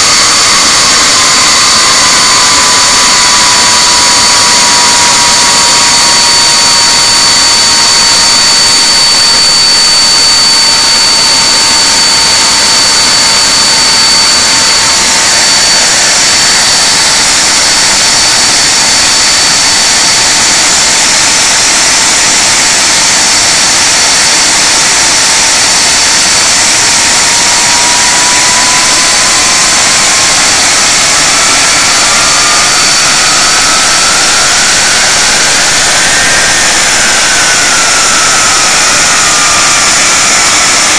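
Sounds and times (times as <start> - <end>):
jet engine roar and whine: 0.0 - 40.9.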